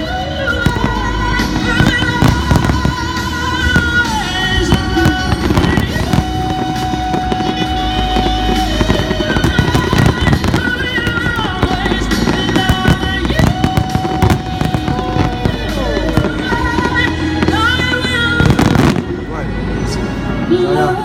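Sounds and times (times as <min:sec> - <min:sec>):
fireworks banging and crackling: 0:00.0 - 0:20.5
loud music over sound system: 0:00.0 - 0:21.0.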